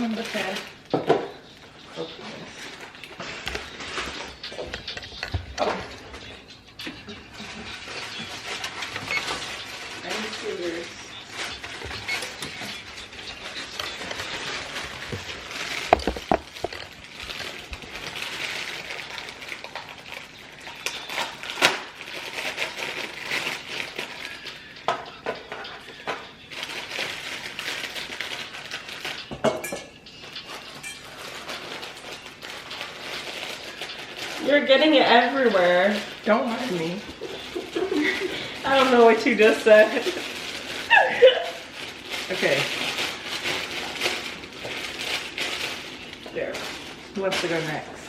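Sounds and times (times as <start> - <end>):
utensils and bowl clinking: 0.0 - 47.8.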